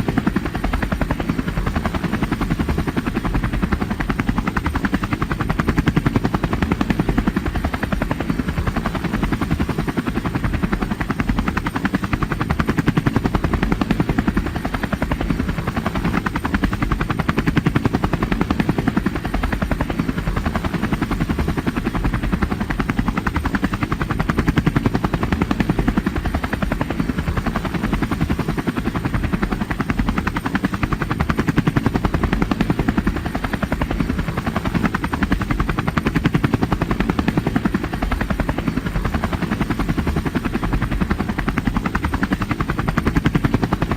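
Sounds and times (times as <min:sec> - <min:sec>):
aircraft chopping drone: 0:00.0 - 0:43.9.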